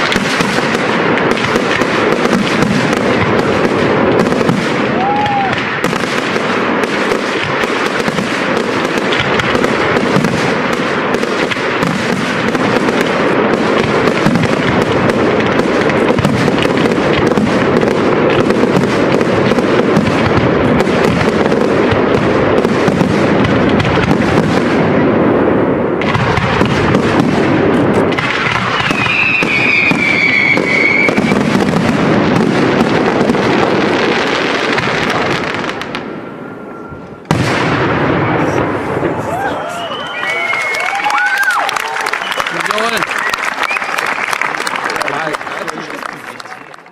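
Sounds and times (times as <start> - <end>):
firework whistling: 0.0 - 24.8, 25.4 - 44.9
fireworks bangs and crackling: 0.0 - 46.9.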